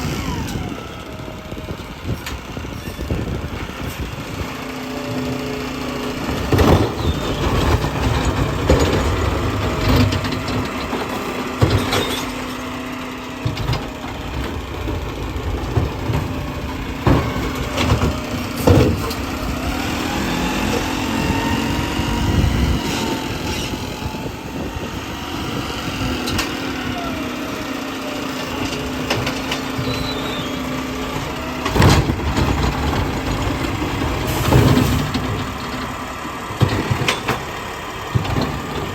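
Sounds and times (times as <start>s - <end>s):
hydraulic whine: 0.0s - 38.9s
truck engine running: 0.0s - 38.9s.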